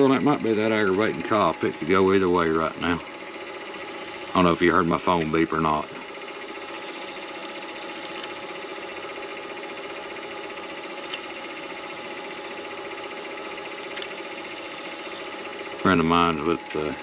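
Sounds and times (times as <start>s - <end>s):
lathe motor humming: 0.0s - 17.0s.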